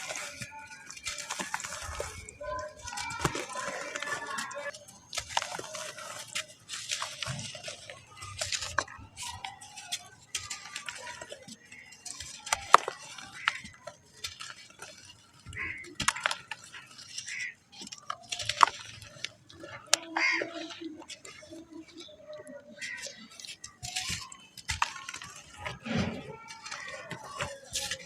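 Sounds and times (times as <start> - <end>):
cement lumps crumbling into water: 0.0 - 28.0.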